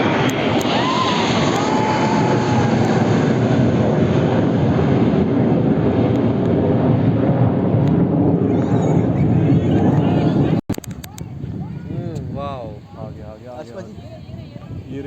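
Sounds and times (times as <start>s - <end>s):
jet aircraft flying overhead: 0.0s - 15.0s.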